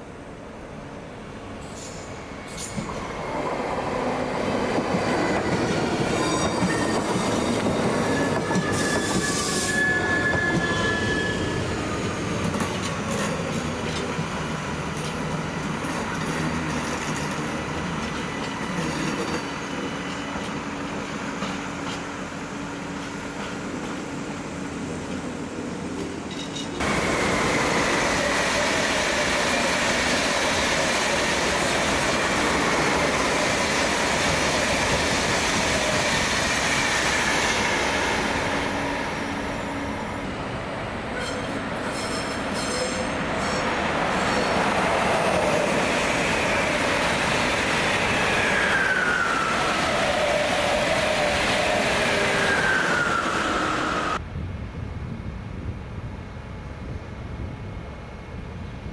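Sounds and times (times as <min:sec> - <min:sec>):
train passing at speed: 0:00.0 - 0:58.9
wheels whining on rails: 0:01.6 - 0:54.3.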